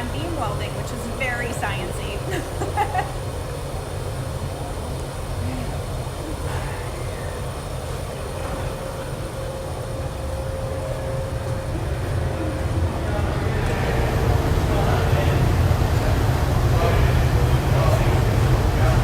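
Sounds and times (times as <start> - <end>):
factory floor rumble: 0.0 - 19.0
faint steady hum: 0.0 - 19.0.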